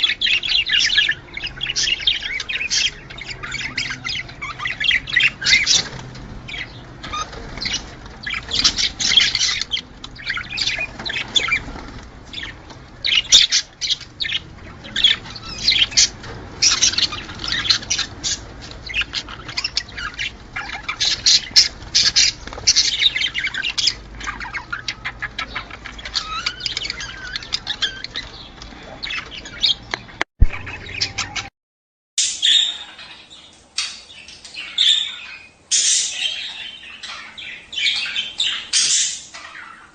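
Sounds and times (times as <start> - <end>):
budgerigars chattering: 0.0 - 31.5, 32.2 - 39.9.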